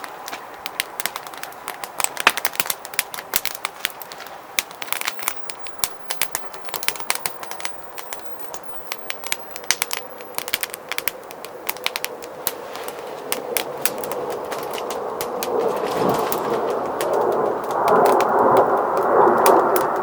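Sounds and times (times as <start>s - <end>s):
firewood crackling and popping: 0.0s - 20.0s
soft hiss of flame: 0.1s - 20.0s.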